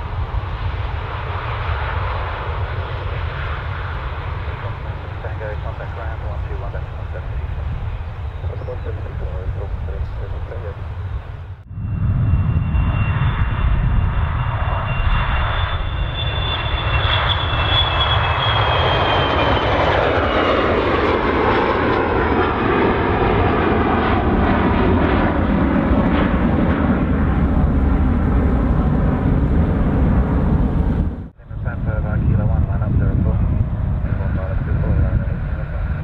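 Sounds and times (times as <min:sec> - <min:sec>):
jet taking off: 0:00.0 - 0:36.0.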